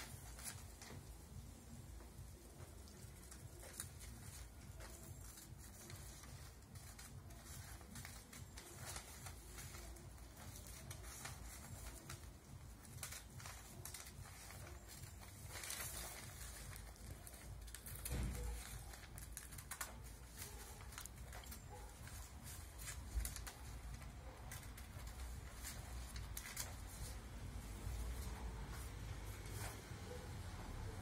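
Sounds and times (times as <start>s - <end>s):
scissors snipping paper: 2.4s - 31.0s.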